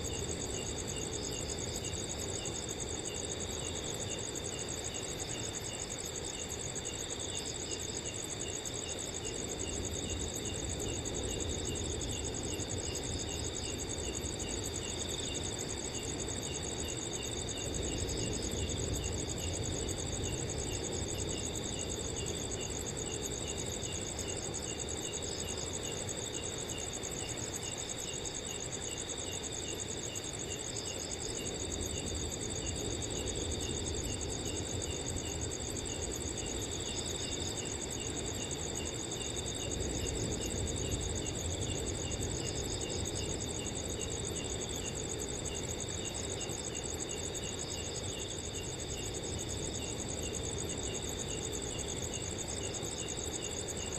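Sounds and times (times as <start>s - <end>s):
crickets trilling and chirping: 0.0s - 53.9s.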